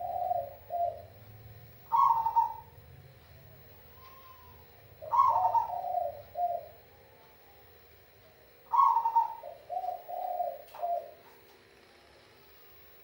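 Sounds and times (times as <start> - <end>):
dove cooing: 0.0 - 7.8, 8.5 - 11.5.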